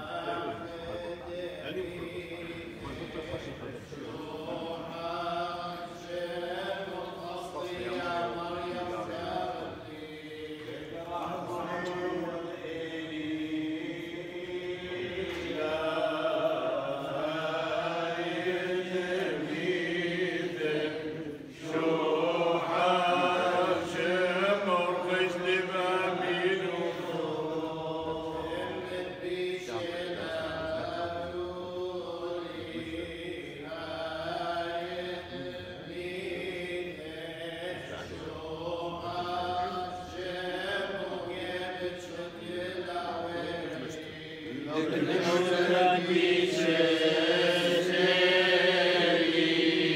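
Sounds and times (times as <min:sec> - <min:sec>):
men chanting prayers: 0:00.0 - 0:49.9.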